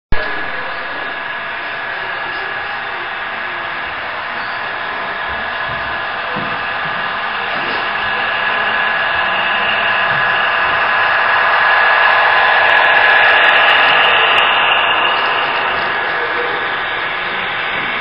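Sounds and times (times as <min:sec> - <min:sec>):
model trains whirring past: 0:00.2 - 0:18.0.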